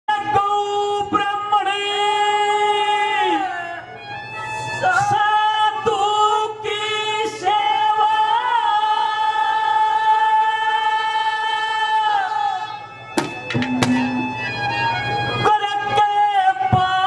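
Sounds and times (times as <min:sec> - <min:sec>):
man singing long held notes: 0:00.1 - 0:04.0, 0:04.6 - 0:12.8, 0:15.4 - 0:17.0.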